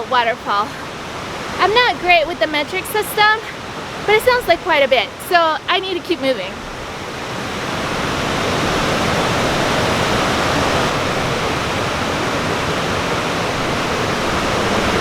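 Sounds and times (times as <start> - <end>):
waterfall water rushing: 0.0 - 15.0.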